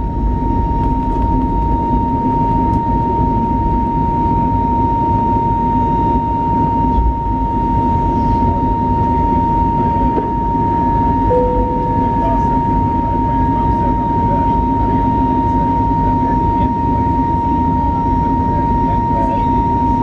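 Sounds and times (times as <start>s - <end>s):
high engine whine: 0.0s - 20.0s.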